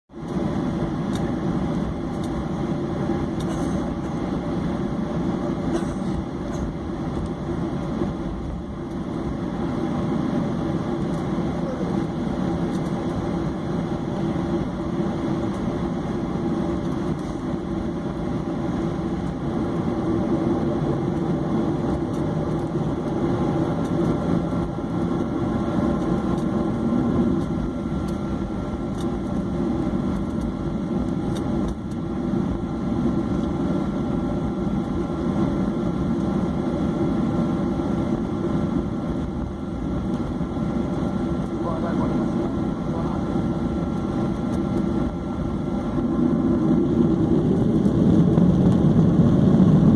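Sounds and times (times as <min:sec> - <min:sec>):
jet engines running steadily: 0:00.1 - 0:49.9.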